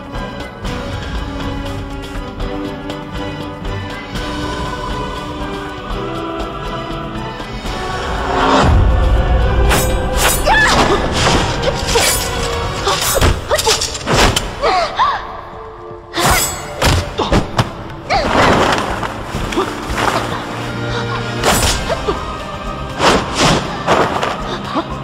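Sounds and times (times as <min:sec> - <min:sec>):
dramatic background music: 0:00.0 - 0:25.0.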